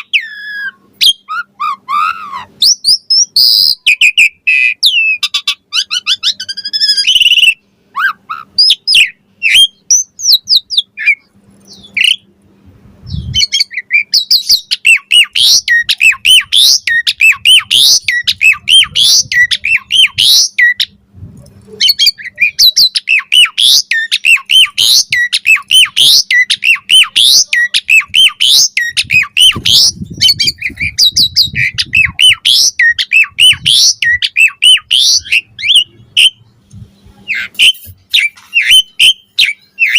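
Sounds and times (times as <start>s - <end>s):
starling singing: 0.0s - 12.3s, 13.1s - 21.0s, 21.7s - 39.9s.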